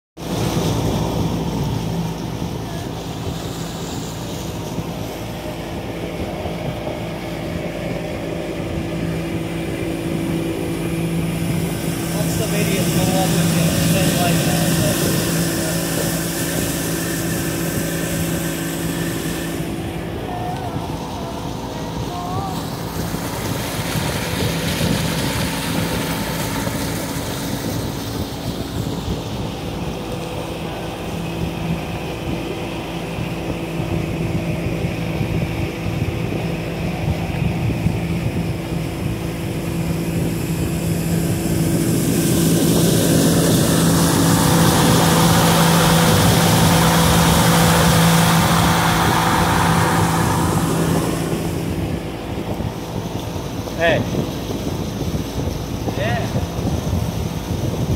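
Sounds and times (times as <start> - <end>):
boat motor running: 0.2 - 57.9
wind and water rushing: 0.2 - 57.9.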